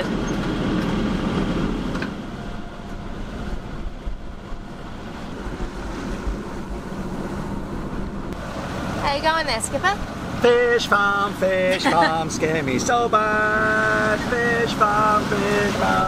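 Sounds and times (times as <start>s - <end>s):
boat engine drone: 0.0s - 16.0s
water rushing along hull: 0.0s - 16.0s.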